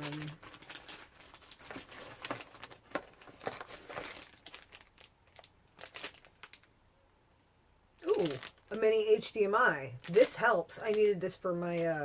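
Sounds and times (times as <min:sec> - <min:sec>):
packaging crinkling and rustling: 0:00.0 - 0:06.7, 0:08.0 - 0:12.0.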